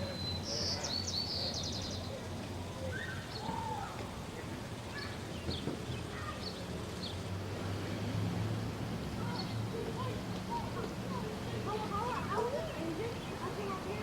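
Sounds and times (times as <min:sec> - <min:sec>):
small birds chirping: 0:00.0 - 0:04.1, 0:04.8 - 0:07.3, 0:09.2 - 0:14.0.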